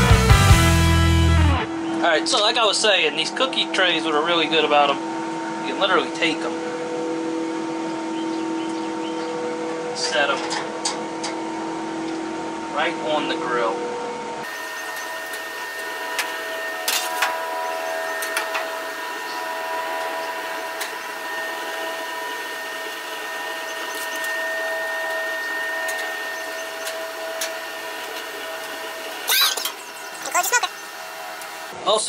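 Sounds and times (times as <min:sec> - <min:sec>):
grill fan motor whine: 0:00.0 - 0:32.0.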